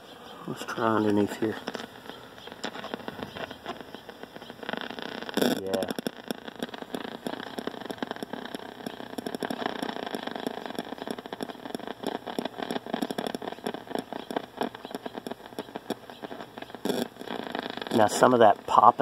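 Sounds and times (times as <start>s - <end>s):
rapid irregular ticking interference: 0.0s - 19.0s
fluttering hiss of escaping gas: 0.3s - 19.0s.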